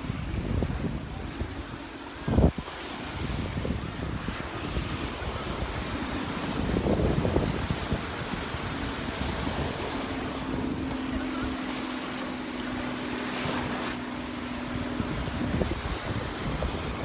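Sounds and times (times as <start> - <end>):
distant motor drone: 0.0 - 17.0
surf washing onto beach: 0.0 - 17.0
wind buffeting microphone: 0.0 - 17.0.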